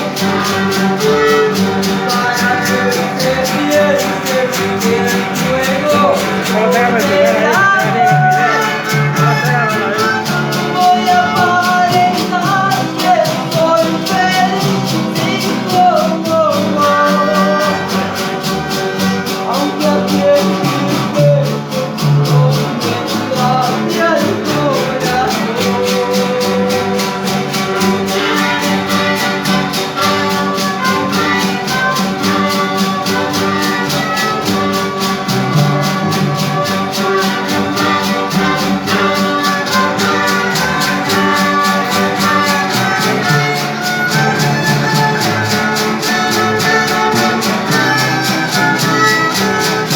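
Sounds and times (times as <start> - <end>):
bass: 0.0 - 49.9
guitar: 0.0 - 49.9
shaker percussion: 0.0 - 49.9.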